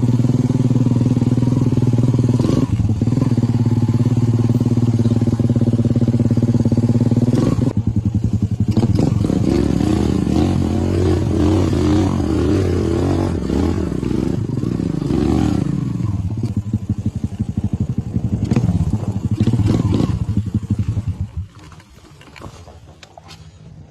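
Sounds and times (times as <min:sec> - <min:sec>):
motorcycle engine running: 0:00.0 - 0:23.2
engine clatter: 0:00.0 - 0:23.9.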